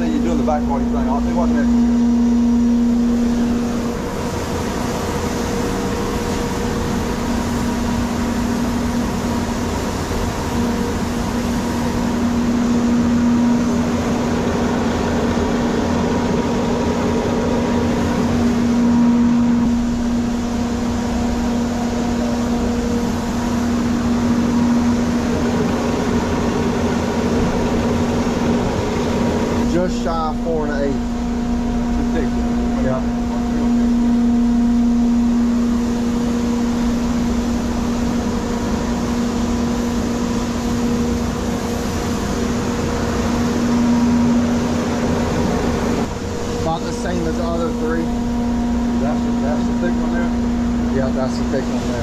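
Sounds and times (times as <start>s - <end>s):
sawmill machinery humming: 0.0s - 52.0s.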